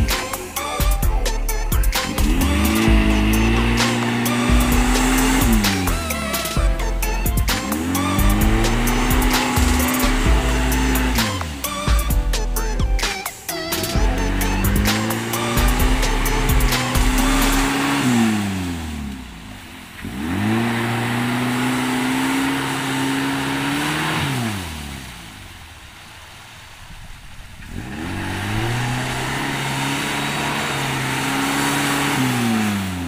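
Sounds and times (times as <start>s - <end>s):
engine revving hard: 0.0s - 12.7s, 13.8s - 25.4s, 27.6s - 33.0s
spinning tyres churning mud: 0.0s - 13.1s, 13.7s - 33.0s.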